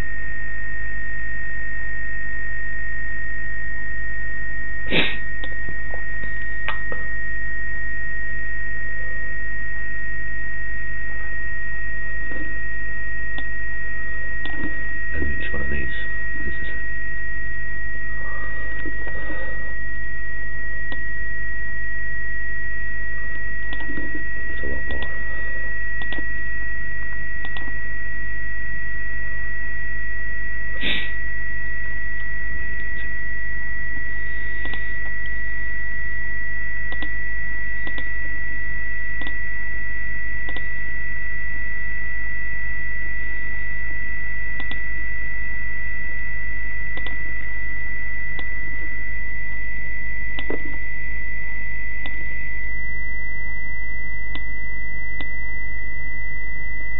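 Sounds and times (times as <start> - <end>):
continuous low hum: 0.0 - 56.9
steady high-pitched tone: 0.0 - 56.9.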